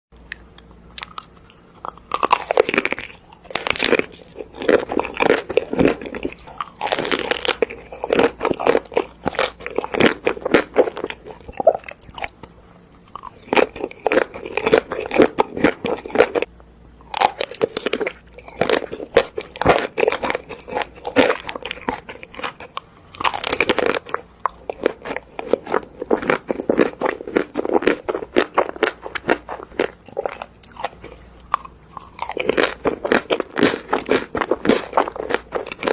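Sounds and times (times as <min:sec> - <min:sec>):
chocolate snapping and crunching: 0:00.2 - 0:35.9.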